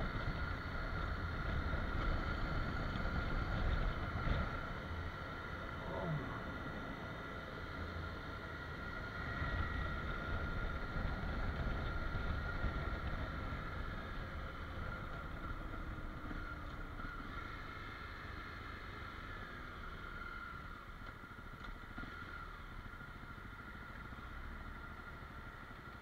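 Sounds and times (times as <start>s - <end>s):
motorcycle engine running: 0.0s - 26.0s
steady high whine: 0.0s - 26.0s
wind and road noise: 0.0s - 26.0s.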